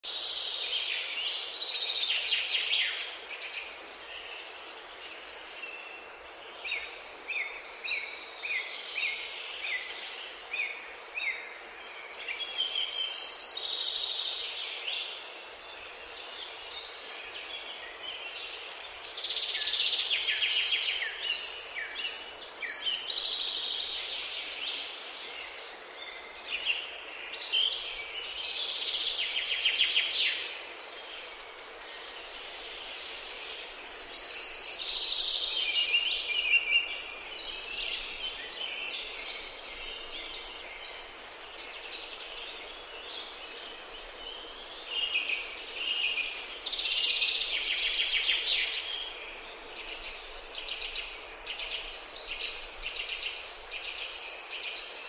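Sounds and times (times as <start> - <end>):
songbirds trilling and chirping: 0.0 - 55.0
steady background hiss: 0.1 - 55.0.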